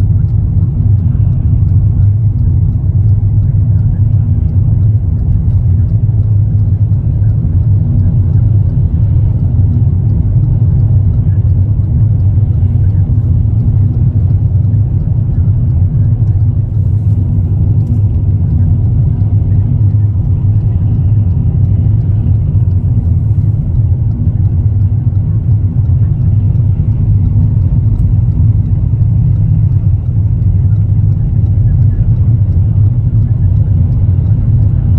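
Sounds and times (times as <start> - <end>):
car cabin road rumble: 0.0 - 34.9.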